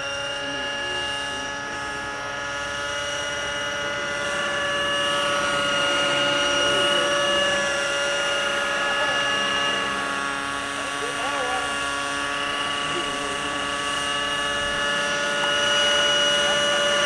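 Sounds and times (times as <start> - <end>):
model helicopters whining: 0.0 - 17.0.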